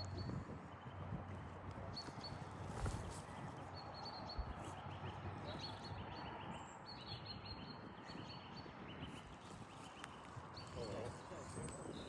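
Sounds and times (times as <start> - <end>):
outdoor background noise: 0.0 - 12.0
small birds chirping: 1.8 - 12.0.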